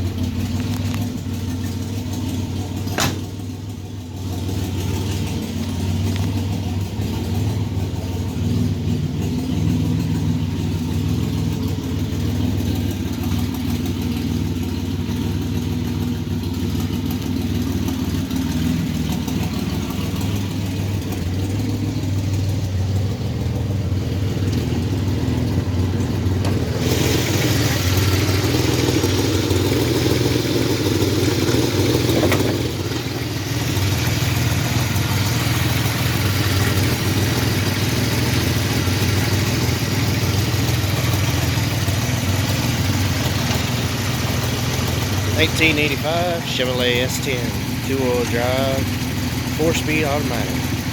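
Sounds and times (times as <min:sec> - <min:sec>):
engine running with knocking: 0:00.0 - 0:50.9.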